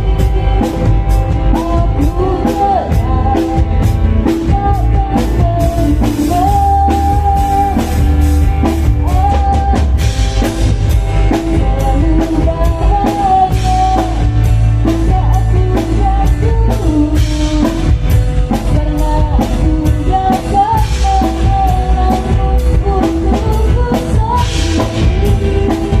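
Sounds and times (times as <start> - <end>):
bass and guitar: 0.0 - 26.0
drum kit beat: 0.0 - 26.0
person singing: 0.0 - 26.0.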